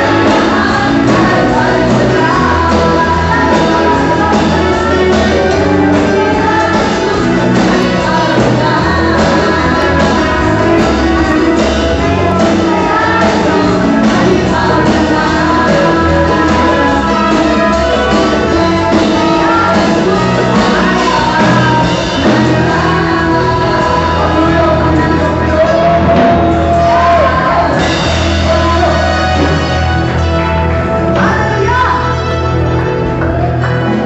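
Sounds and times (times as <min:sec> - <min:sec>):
drums and bass beat: 0:00.0 - 0:34.0
live band playing: 0:00.0 - 0:34.0
woman singing into microphone: 0:00.0 - 0:34.0.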